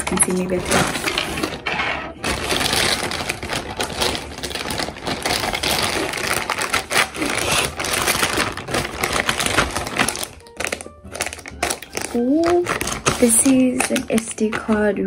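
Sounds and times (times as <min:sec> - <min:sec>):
plastic bag tearing and crumpling: 0:00.0 - 0:14.9.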